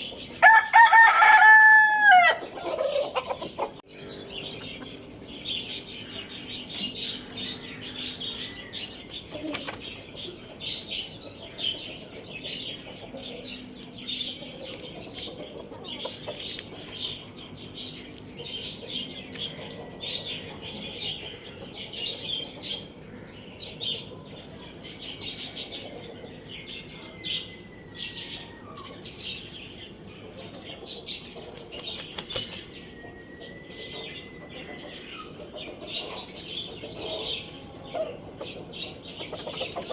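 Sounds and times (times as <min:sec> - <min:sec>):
small birds chirping: 0:02.4 - 0:39.9.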